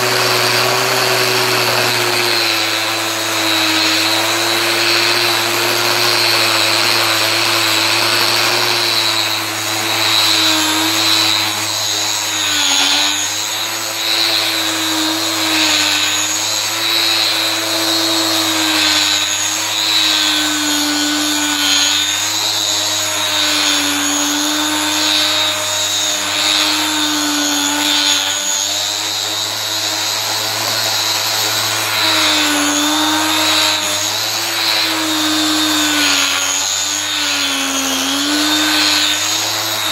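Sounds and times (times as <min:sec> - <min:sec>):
electric sander running: 0:00.0 - 0:39.9.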